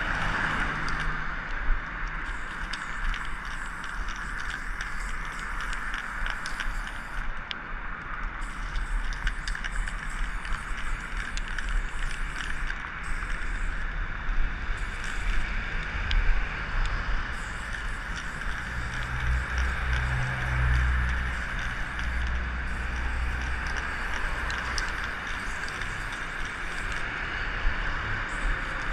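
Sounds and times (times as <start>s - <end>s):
spray paint can hissing: 0.0s - 1.1s, 2.2s - 7.4s, 8.3s - 27.1s, 28.2s - 28.9s
city traffic hum: 0.0s - 28.9s.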